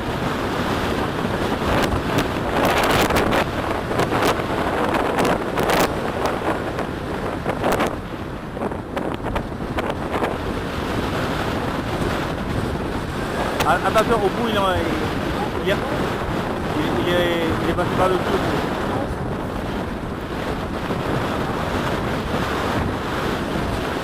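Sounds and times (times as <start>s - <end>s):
sea waves: 0.0s - 24.0s
wind buffeting microphone: 0.0s - 24.0s.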